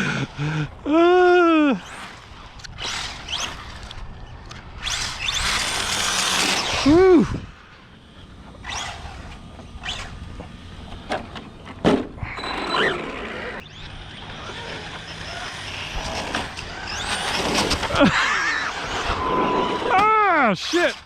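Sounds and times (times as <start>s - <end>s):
electric motor whine: 1.8s - 19.9s.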